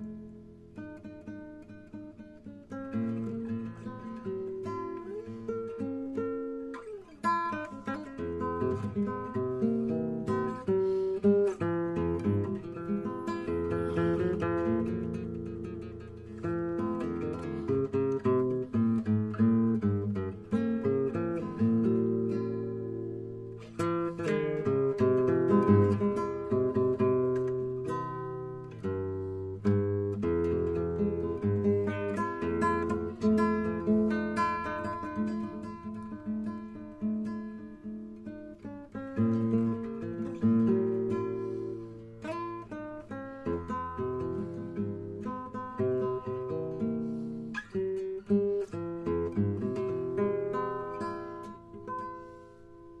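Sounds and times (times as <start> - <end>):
acoustic guitar chords: 0.0 - 53.0.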